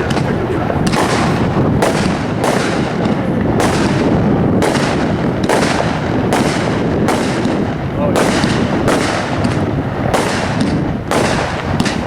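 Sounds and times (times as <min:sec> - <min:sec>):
dense fireworks din: 0:00.0 - 0:12.0
fireworks shots: 0:00.0 - 0:12.0.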